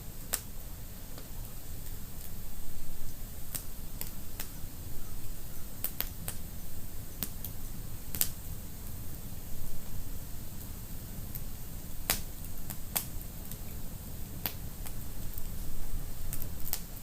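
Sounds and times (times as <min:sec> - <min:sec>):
low rumble of flames: 0:00.0 - 0:17.0
wood fire crackling and popping: 0:00.2 - 0:02.5, 0:03.1 - 0:04.6, 0:05.8 - 0:09.2, 0:10.5 - 0:17.0.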